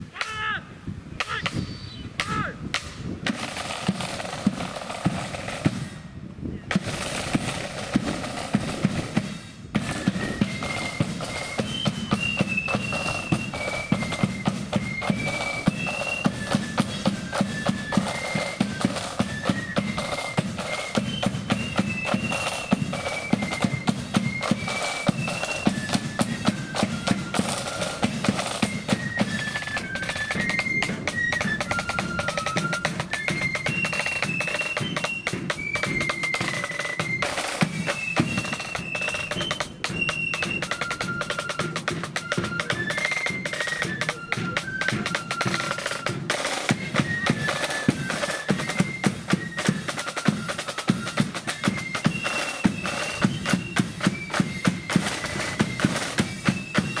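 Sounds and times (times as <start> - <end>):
flutes playing a march tune: 0.0 - 57.0
snare drum rolls: 1.2 - 6.1, 6.7 - 57.0.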